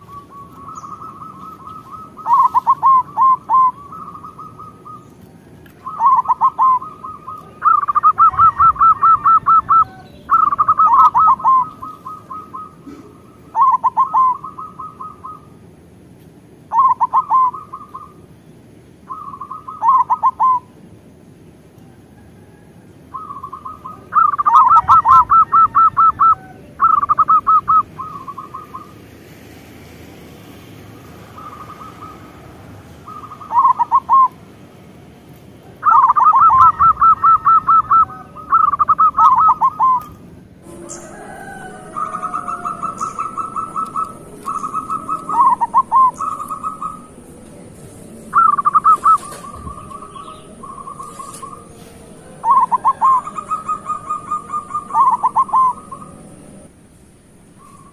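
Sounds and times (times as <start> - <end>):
dove cooing: 0.0 - 15.6, 16.7 - 18.3, 19.1 - 20.8, 21.9 - 29.1, 30.3 - 34.6, 35.6 - 57.9.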